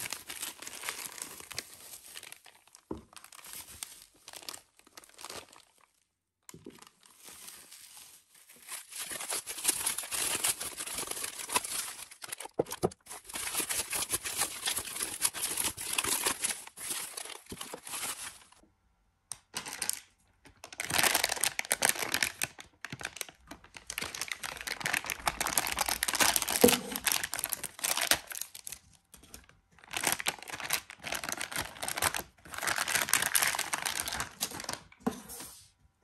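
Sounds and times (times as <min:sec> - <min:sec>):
plastic bag crinkling: 0:00.0 - 0:18.6, 0:19.6 - 0:35.6.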